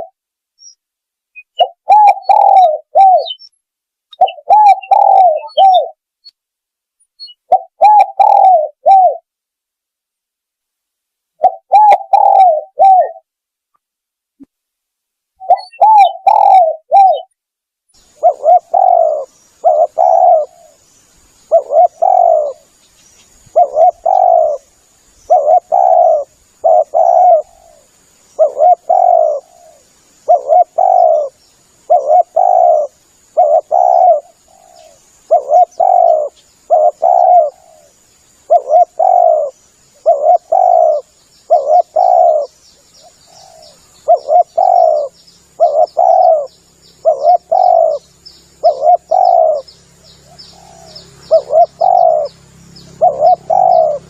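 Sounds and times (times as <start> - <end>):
dove cooing: 1.4 - 3.4, 4.1 - 6.0, 7.3 - 9.3, 11.4 - 13.3, 15.4 - 17.3, 18.0 - 20.8, 21.5 - 22.8, 23.4 - 54.0.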